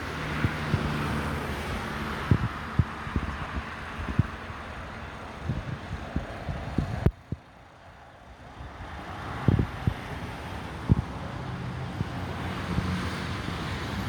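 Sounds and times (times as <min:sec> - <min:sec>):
wind thumping on microphone: 0:00.0 - 0:07.5, 0:08.7 - 0:13.2.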